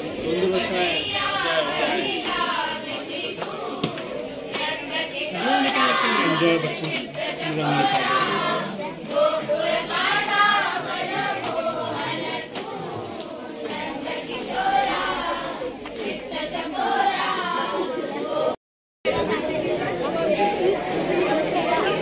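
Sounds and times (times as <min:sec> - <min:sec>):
group singing devotional song: 0:00.0 - 0:18.6.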